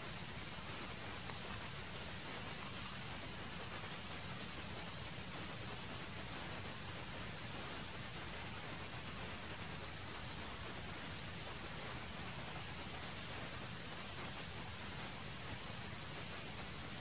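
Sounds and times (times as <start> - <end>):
faint background hiss: 0.0 - 17.0
insect chorus buzzing: 0.0 - 17.0.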